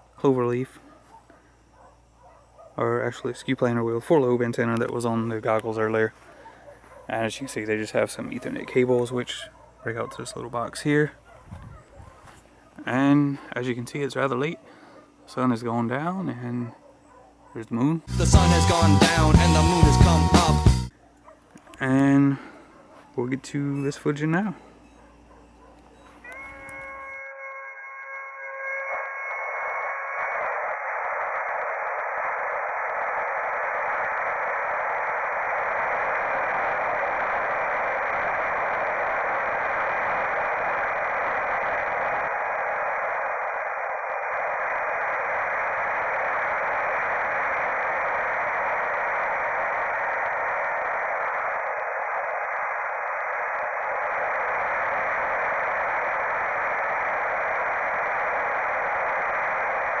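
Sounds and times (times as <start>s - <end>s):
faint steady tones: 0.0s - 60.0s.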